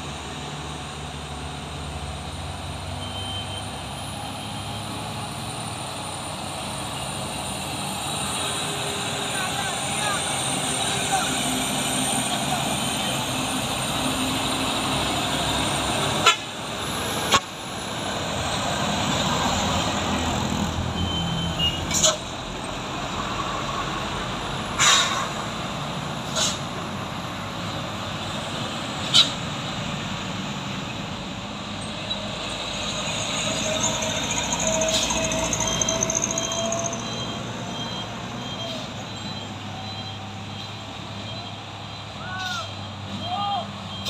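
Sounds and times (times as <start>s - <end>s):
diesel trucks driving past: 0.0s - 44.0s.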